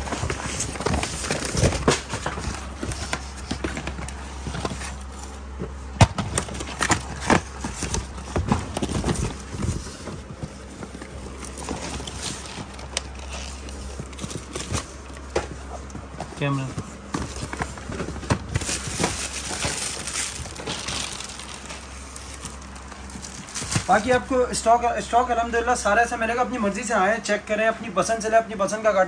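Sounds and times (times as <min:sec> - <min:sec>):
cardboard boxes rustling: 0:00.0 - 0:24.4.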